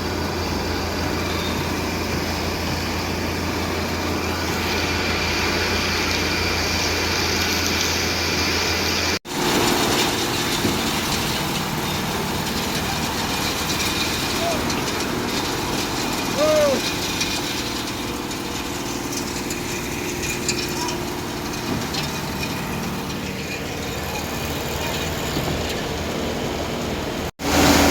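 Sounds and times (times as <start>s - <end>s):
steady machine noise: 0.0s - 27.9s.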